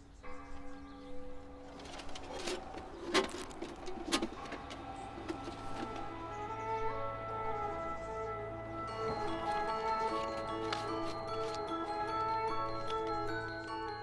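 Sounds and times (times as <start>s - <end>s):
soft background music: 0.0s - 14.0s
pigeon cooing: 1.7s - 14.0s.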